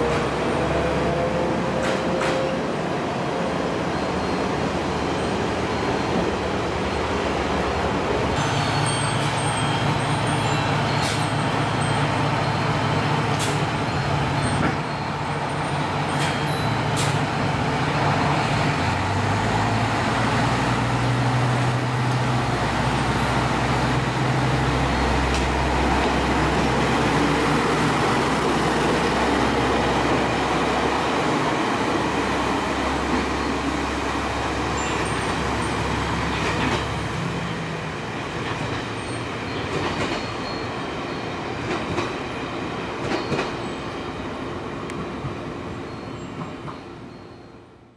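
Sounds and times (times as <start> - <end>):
railcar diesel engine rumbling: 0.0 - 47.9.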